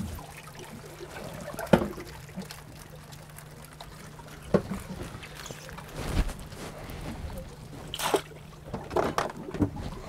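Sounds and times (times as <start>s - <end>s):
low steady hum: 0.0s - 10.0s
water pouring and trickling: 0.0s - 10.0s.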